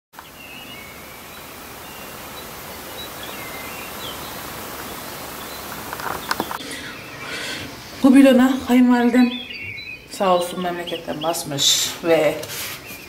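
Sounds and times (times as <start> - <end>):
steady background hiss: 0.2 - 13.0.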